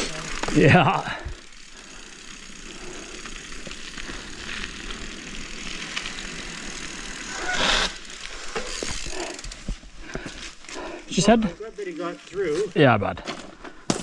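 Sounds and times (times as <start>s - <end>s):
bike tyres on rough trail: 0.0s - 14.0s.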